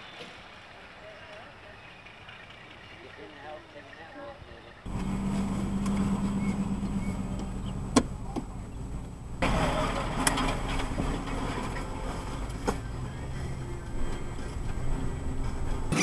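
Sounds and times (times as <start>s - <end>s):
car engine and road noise: 0.0s - 4.0s, 4.7s - 16.0s.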